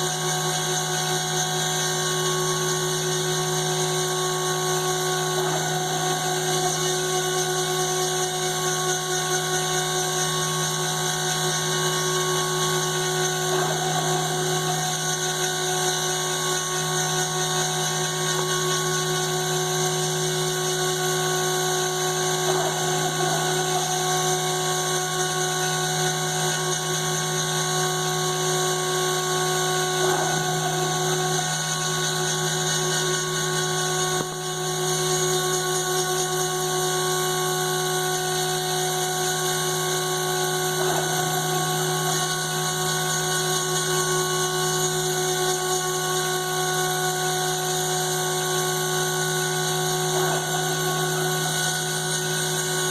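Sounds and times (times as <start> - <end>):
cnc router spindle whining: 0.0 - 52.9.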